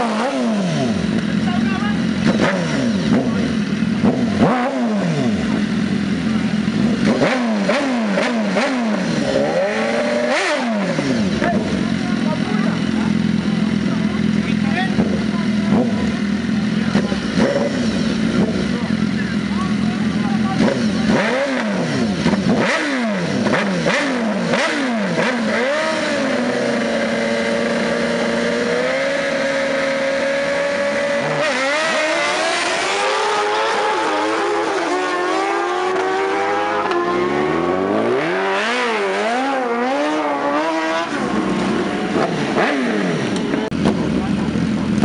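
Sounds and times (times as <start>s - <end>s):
motorcycles accelerating hard: 0.0s - 45.0s
superbike engines revving: 0.0s - 45.0s.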